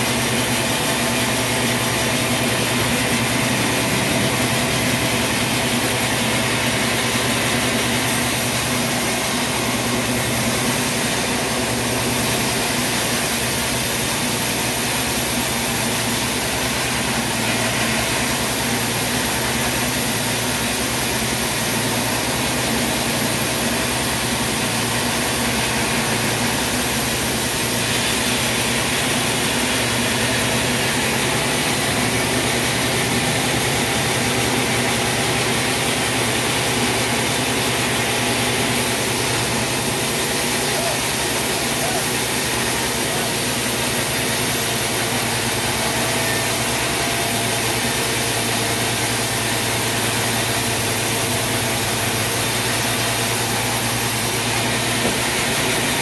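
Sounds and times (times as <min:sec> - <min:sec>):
bandsaw machinery drone: 0:00.0 - 0:56.0.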